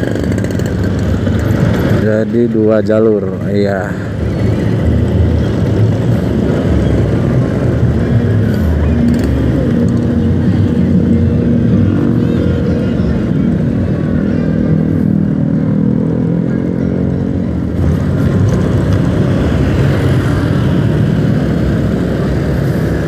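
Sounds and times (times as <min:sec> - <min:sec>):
motorcycle engine running: 0:00.0 - 0:02.0, 0:04.0 - 0:23.0
road noise: 0:00.0 - 0:23.0.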